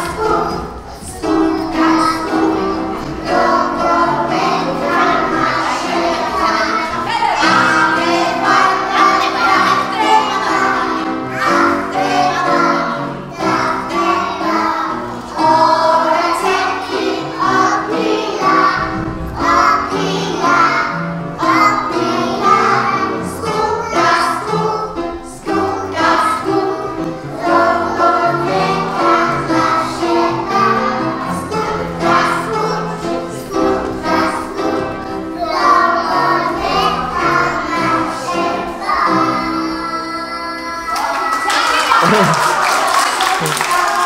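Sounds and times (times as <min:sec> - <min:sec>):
piano accompaniment: 0:00.0 - 0:40.8
children singing in chorus: 0:00.0 - 0:44.0.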